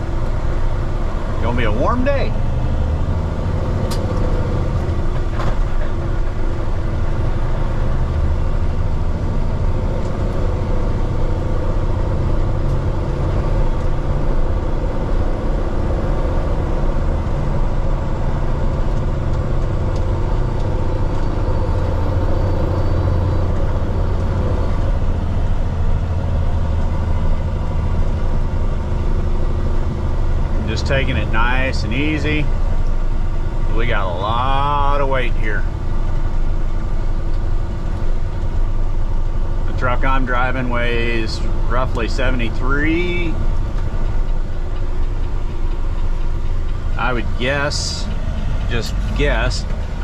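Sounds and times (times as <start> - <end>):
diesel engine running: 0.0 - 50.0
road noise: 0.0 - 50.0.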